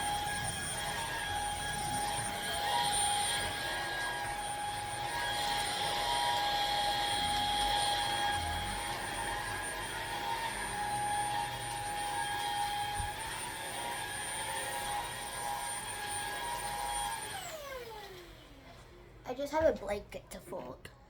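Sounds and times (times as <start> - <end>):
vacuum cleaner running: 0.0 - 18.8.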